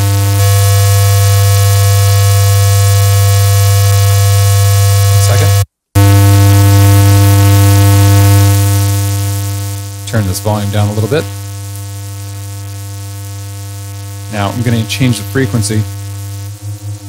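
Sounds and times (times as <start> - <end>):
buzzy square-wave tone: 0.0 - 17.0.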